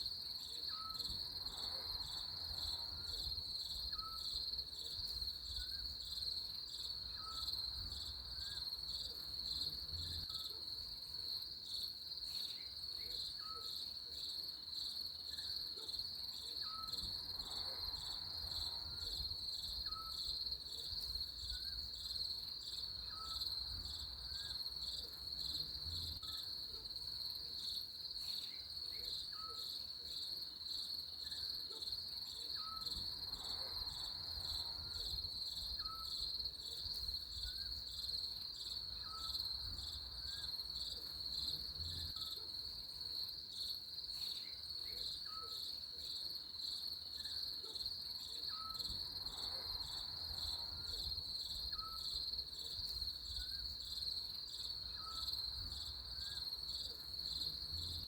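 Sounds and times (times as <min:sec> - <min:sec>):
crickets chirping in a trill: 0:00.0 - 0:58.0.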